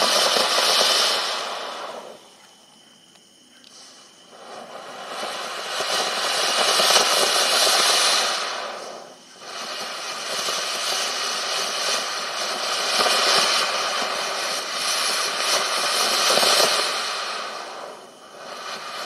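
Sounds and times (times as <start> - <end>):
firework fountain hissing: 0.0 - 19.0.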